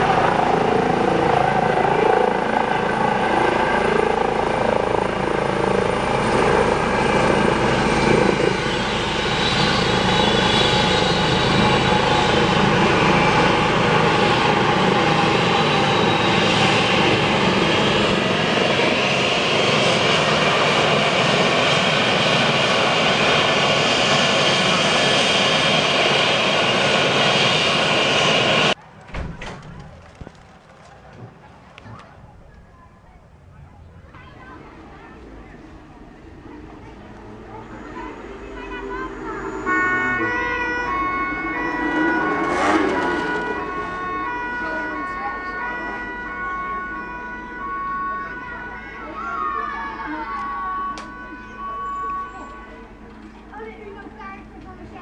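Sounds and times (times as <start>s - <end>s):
helicopter rotor and turbine: 0.0s - 28.8s, 33.3s - 48.9s
high-pitched turbine whine: 0.0s - 28.8s, 33.3s - 54.4s.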